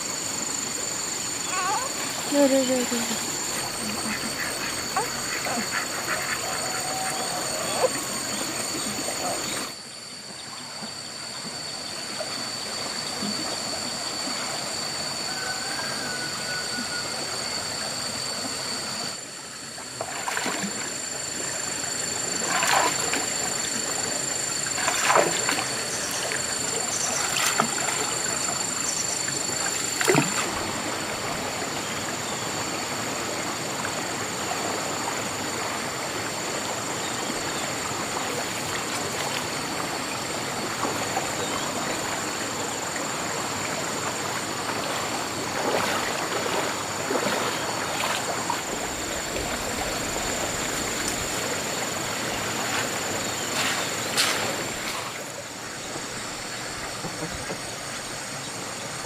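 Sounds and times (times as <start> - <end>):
flowing water rushing: 0.0 - 9.8, 10.5 - 59.0.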